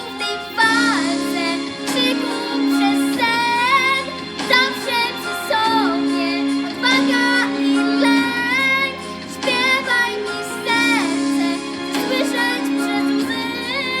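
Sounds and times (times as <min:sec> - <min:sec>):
girl singing a ballad: 0:00.0 - 0:14.0
instrumental backing track: 0:00.0 - 0:14.0.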